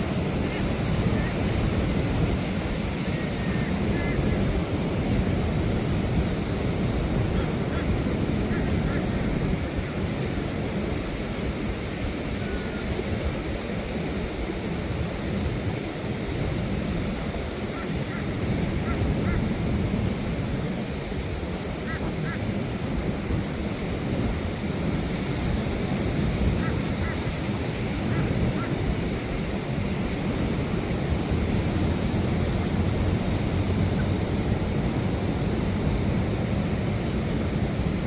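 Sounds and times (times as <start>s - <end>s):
ocean surf breaking: 0.0s - 38.0s
wind buffeting microphone: 0.0s - 38.0s.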